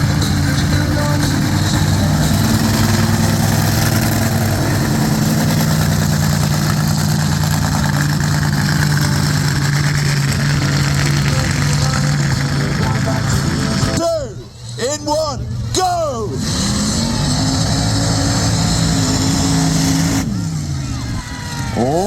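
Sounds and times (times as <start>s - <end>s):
truck engines droning: 0.0s - 22.0s.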